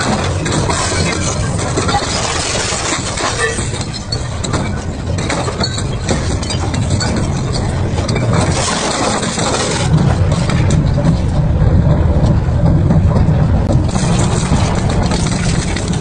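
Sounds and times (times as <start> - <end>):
material cracking and crunching: 0.0 - 16.0
shredder machine rumble: 0.0 - 16.0.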